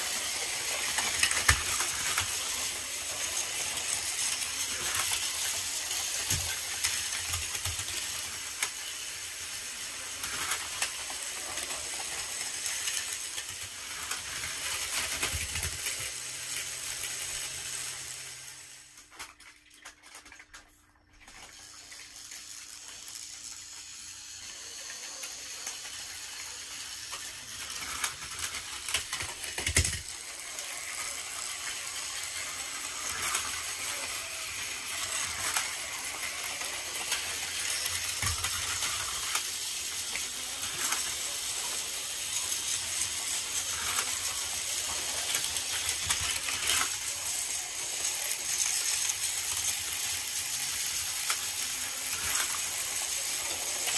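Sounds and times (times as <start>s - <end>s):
toy trains running on plastic track: 0.0s - 53.9s.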